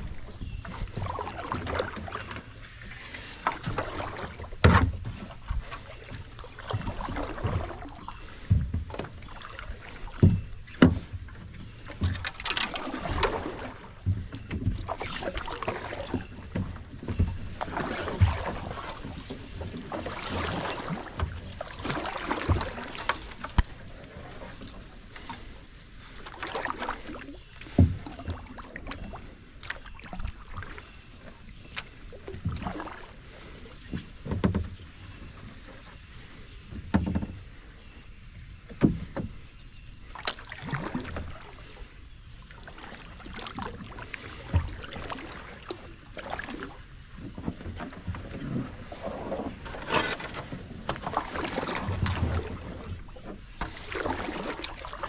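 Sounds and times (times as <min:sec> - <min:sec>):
paddle strokes splashing water: 0:00.0 - 0:55.0.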